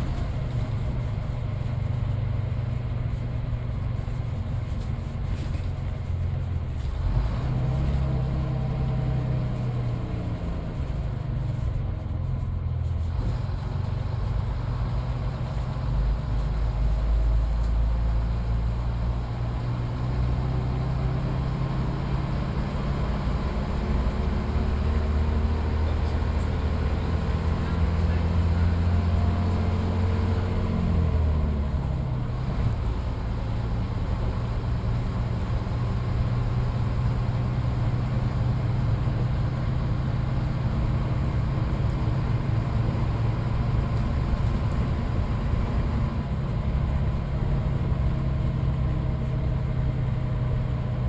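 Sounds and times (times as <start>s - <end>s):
bus diesel engine running: 0.0s - 51.0s.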